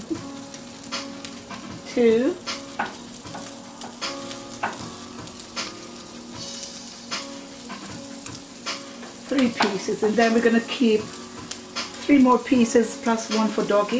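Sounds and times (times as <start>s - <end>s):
bacon sizzling in frying pan: 0.0s - 13.9s.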